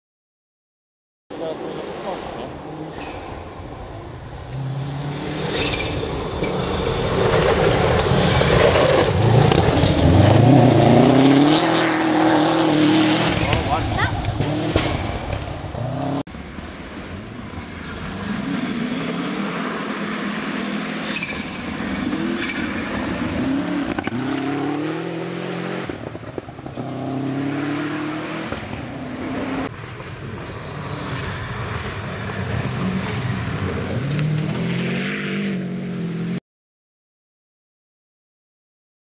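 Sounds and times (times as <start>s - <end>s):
rally car engine revving: 1.3s - 16.2s, 17.8s - 29.7s, 30.5s - 36.4s.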